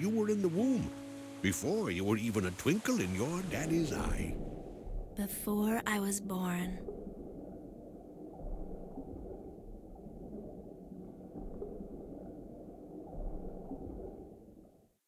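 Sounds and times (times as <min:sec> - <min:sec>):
muffled rumble of water: 0:00.0 - 0:15.0.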